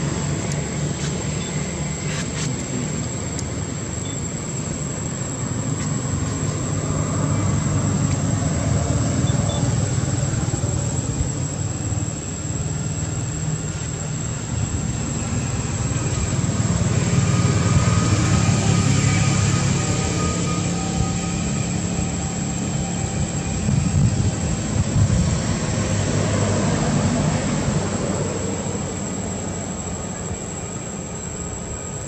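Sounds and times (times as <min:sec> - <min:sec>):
low rumbling background noise: 0:00.0 - 0:32.0.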